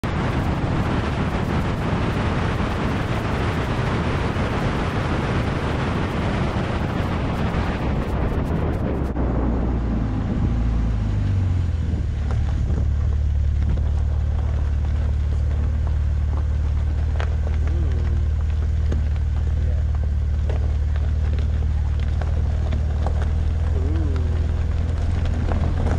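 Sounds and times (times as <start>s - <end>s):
engine and tyre drone: 0.0s - 25.9s
wind and road noise: 0.0s - 25.9s.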